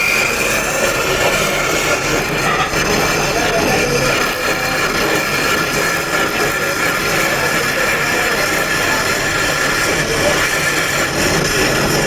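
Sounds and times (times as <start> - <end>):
power tool whining on stone: 0.0 - 12.0.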